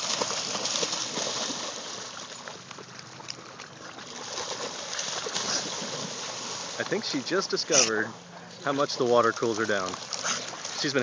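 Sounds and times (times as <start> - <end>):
dogs splashing through water: 0.0 - 11.0.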